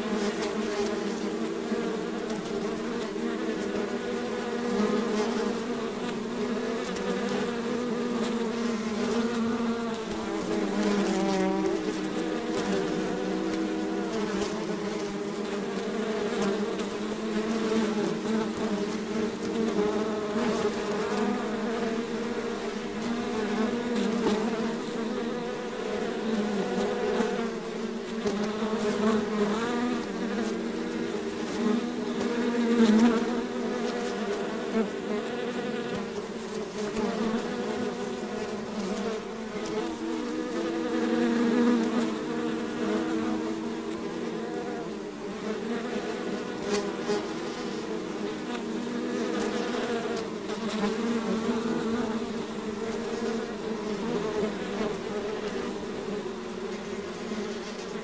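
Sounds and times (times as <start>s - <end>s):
bees buzzing: 0.0s - 58.0s.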